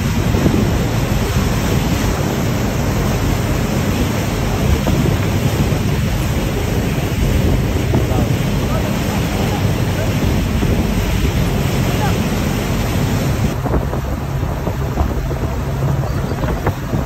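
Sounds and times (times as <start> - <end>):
churning wake water: 0.0 - 17.0
heavy low rumble: 0.0 - 17.0
wind on microphone: 0.0 - 17.0.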